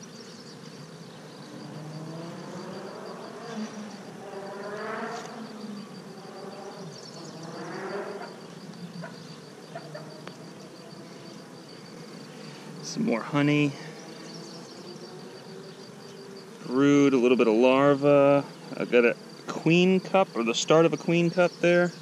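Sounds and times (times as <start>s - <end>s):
bee flying past: 0.0s - 22.0s
bees buzzing around hive: 0.0s - 22.0s.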